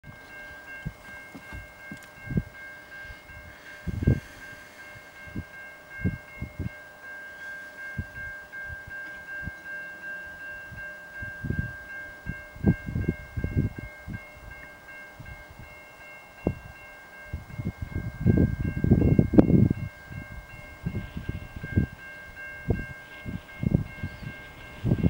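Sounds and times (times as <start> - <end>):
wind buffeting microphone: 0.0 - 6.8, 7.9 - 9.7, 10.3 - 25.0.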